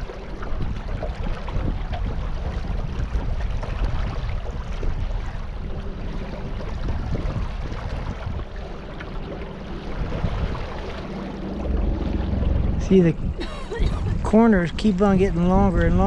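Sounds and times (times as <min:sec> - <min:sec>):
boat engine rumble: 0:00.0 - 0:16.0
moving water: 0:00.0 - 0:16.0
wind buffeting microphone: 0:00.0 - 0:16.0.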